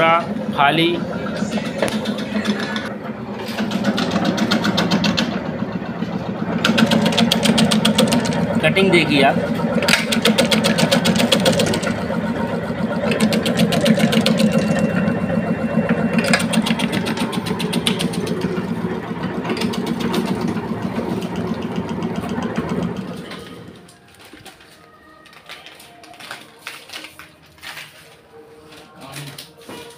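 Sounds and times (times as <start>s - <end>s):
electric motor hum: 0.0s - 24.0s.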